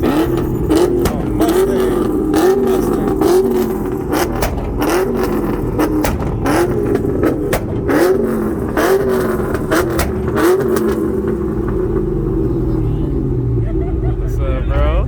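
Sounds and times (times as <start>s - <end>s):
exhaust pops and bangs: 0.0s - 13.2s
car engine revving in bursts: 0.0s - 15.0s.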